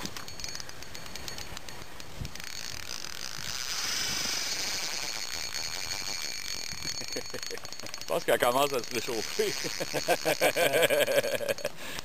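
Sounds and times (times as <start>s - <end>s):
fishing reel clicking rapidly: 0.1s - 11.7s.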